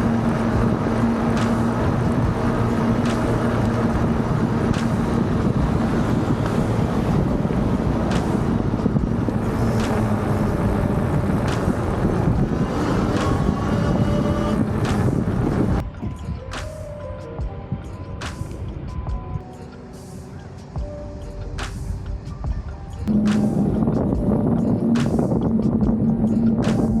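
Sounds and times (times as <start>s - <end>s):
wind buffeting microphone: 0.0s - 16.8s, 21.7s - 27.0s
road noise: 0.0s - 27.0s.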